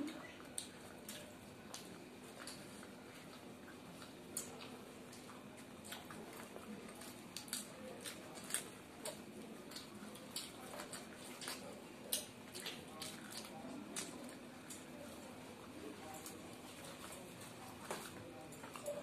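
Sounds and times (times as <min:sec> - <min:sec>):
people chewing food: 0:00.0 - 0:19.0
soft squishing of food: 0:00.0 - 0:19.0.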